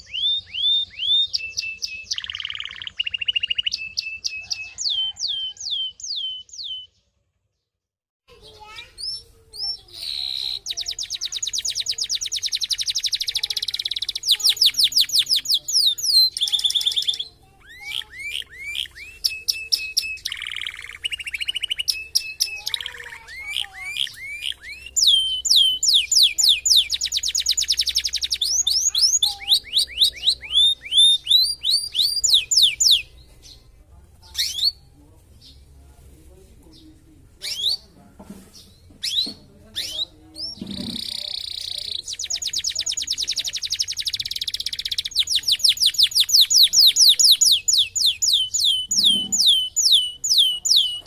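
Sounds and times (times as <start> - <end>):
canary singing: 0.0 - 7.1, 8.3 - 35.7, 36.7 - 37.9, 38.6 - 51.0.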